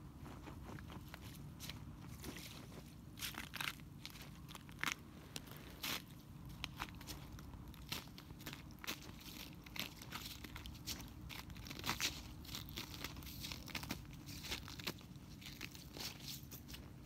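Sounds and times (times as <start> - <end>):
ice crackling and crunching: 2.1 - 17.0.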